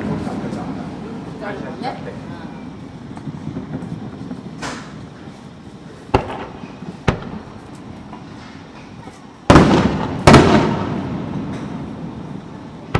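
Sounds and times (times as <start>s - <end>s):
fireworks bursting: 0.0s - 12.9s.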